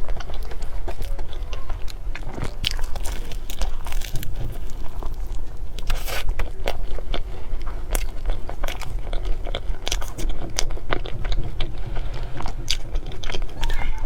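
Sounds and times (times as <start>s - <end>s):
person chewing cake: 0.0s - 14.0s.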